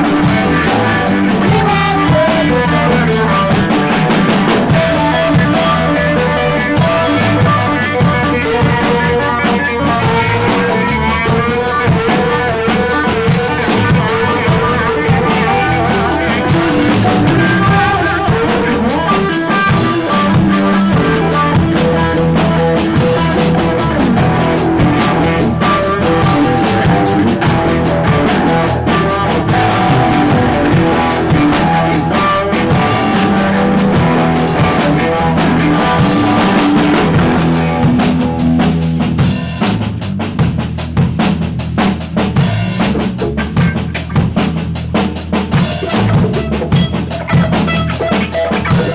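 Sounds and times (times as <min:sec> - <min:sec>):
drum kit with rimshots: 0:00.0 - 0:48.9
live blues-rock band playing: 0:00.0 - 0:48.9.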